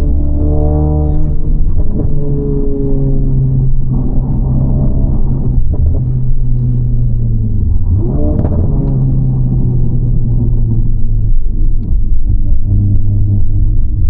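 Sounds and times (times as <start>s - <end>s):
car engine drone from inside cabin: 0.0s - 14.0s.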